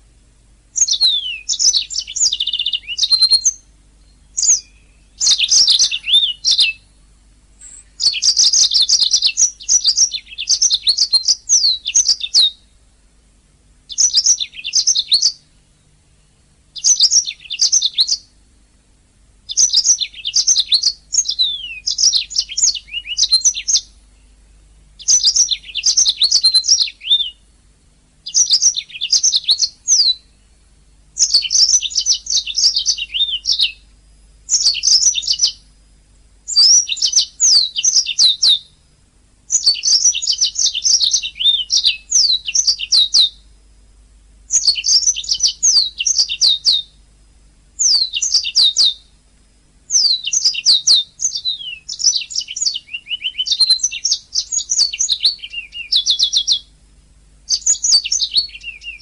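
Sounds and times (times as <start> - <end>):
canary singing trills: 0.7 - 13.0, 13.8 - 18.6, 19.4 - 43.6, 44.5 - 47.1, 47.8 - 49.2, 49.9 - 56.8, 57.4 - 59.0.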